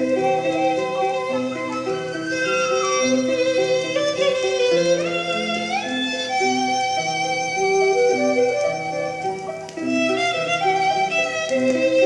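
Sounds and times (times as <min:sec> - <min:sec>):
bowed violin melody: 0:00.0 - 0:12.0
instrumental accompaniment: 0:00.0 - 0:12.0.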